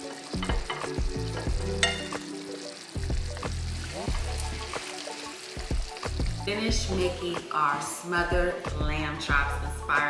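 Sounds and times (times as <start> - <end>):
background music with bass line: 0.0 - 7.4, 8.2 - 10.0
meat sizzling in a pan: 0.0 - 8.4.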